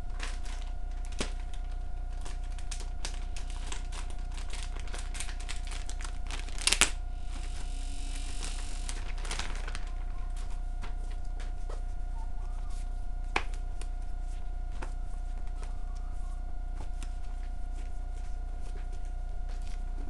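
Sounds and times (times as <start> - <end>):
plastic and paper crinkling: 0.0 - 7.7, 8.3 - 20.0
faint steady hum: 0.0 - 20.0.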